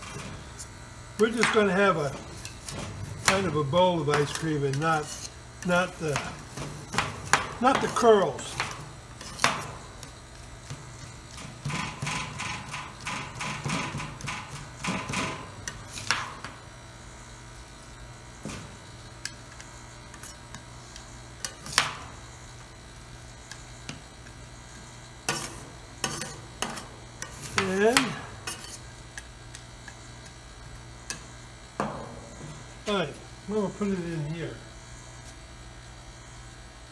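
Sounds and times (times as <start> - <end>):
compressor humming: 0.0 - 36.9.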